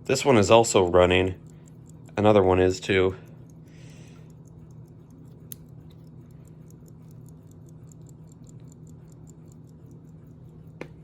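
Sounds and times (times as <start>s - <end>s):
steady low hum: 0.0s - 11.0s
pocket watch ticking fast: 0.1s - 10.8s.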